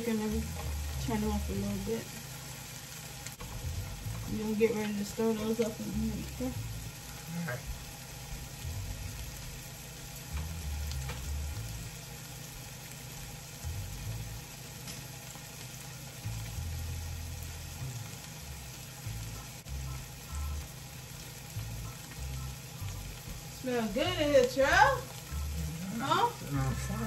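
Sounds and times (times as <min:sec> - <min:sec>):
food sizzling in pans: 0:00.0 - 0:27.0.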